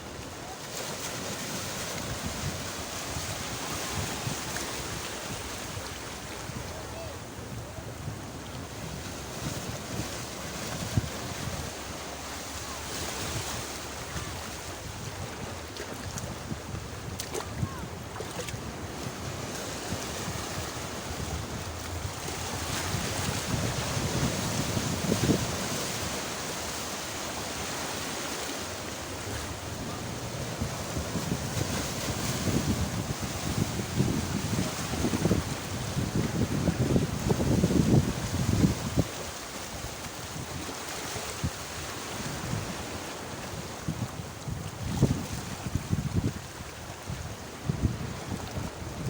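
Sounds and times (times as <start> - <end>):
sea waves washing onto shore: 0.0 - 49.0
wind buffeting microphone: 1.4 - 12.0, 13.1 - 27.8, 28.9 - 49.0.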